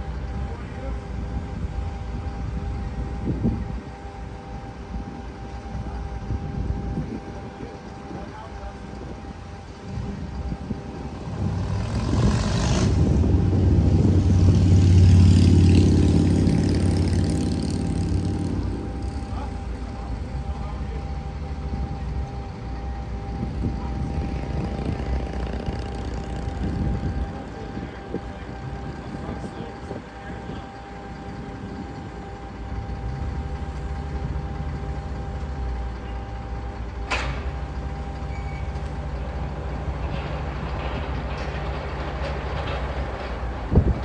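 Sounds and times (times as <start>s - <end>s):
constant whine: 0.0s - 44.0s
heavy vehicle engine running: 0.0s - 44.0s.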